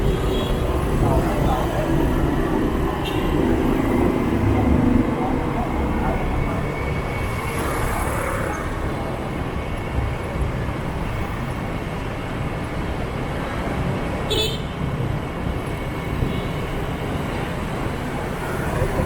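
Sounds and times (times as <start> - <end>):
motorbike and street traffic: 0.0 - 19.0.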